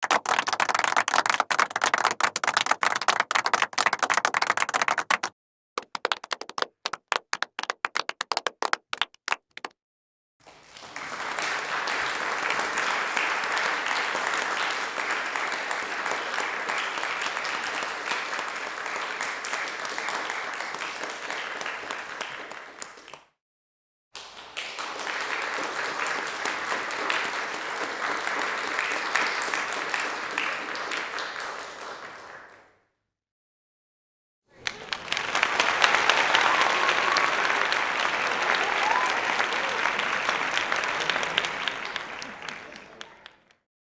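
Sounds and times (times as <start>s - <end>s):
crowd applause: 0.0s - 9.7s, 10.4s - 23.1s, 24.6s - 32.5s, 34.6s - 43.6s.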